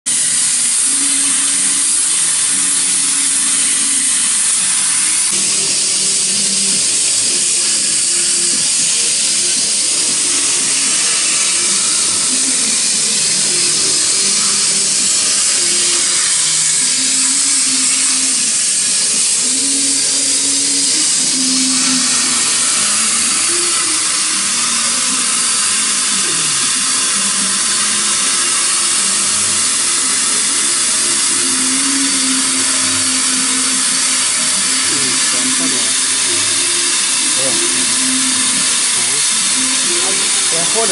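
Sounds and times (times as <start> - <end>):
loud air hiss: 0.1 - 40.9
motors humming changing pitch: 0.1 - 40.9.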